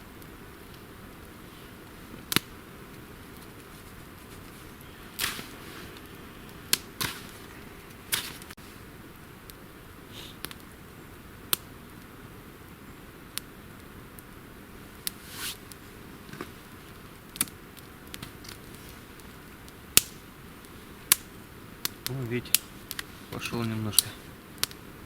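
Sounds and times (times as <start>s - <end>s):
campfire popping and cracking: 0.0s - 25.0s
fire hissing: 0.0s - 25.0s.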